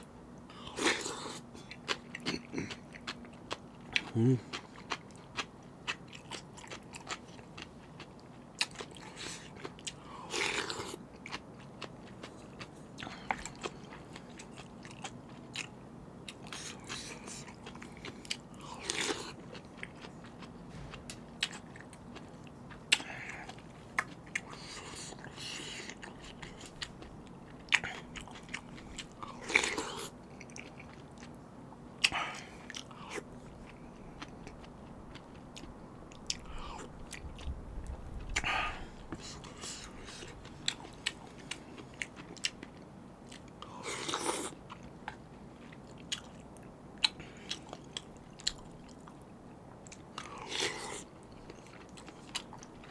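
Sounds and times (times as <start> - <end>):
noisy eating bursts: 0.0 - 52.9
person chewing noodles: 0.0 - 52.9.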